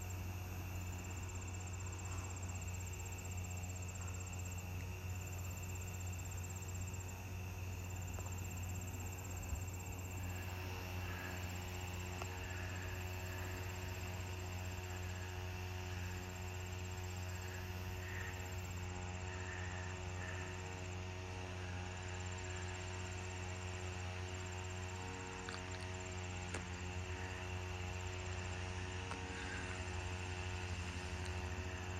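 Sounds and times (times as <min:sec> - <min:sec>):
insects trilling: 0:00.0 - 0:31.9
low mechanical hum: 0:00.0 - 0:31.9.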